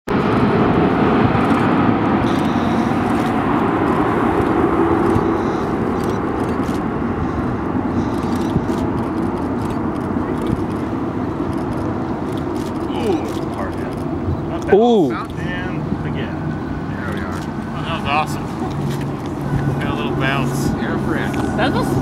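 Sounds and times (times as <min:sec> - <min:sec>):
jet airliner engines: 0:00.1 - 0:22.0.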